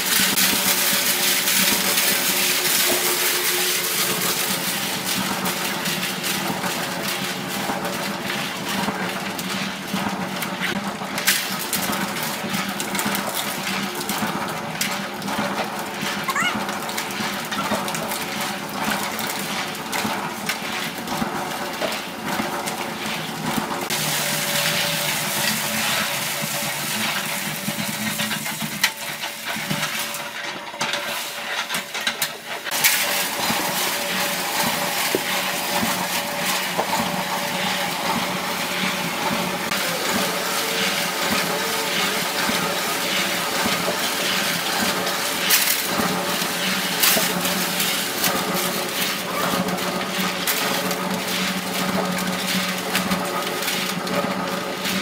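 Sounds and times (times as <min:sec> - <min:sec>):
concrete mixer running: 0:00.0 - 0:55.0.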